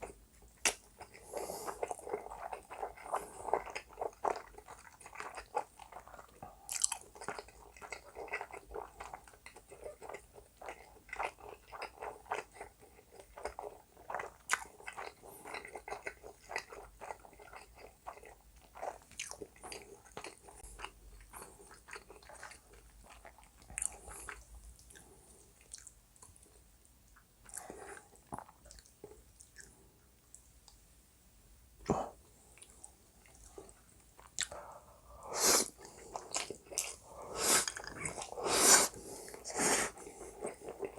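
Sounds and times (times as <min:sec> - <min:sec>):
chewing with wet mouth clicks: 0:00.0 - 0:30.8, 0:32.6 - 0:34.6.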